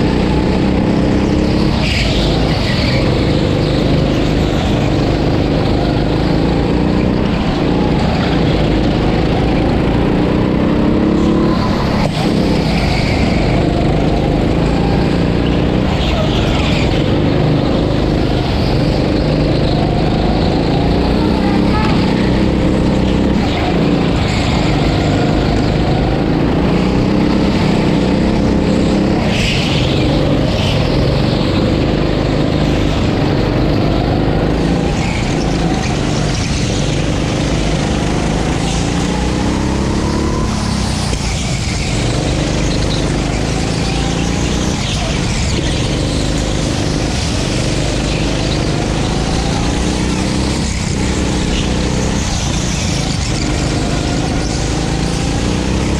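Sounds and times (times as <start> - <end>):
go-kart engine revving: 0.0 - 55.9
steady noisy rush: 0.0 - 55.9.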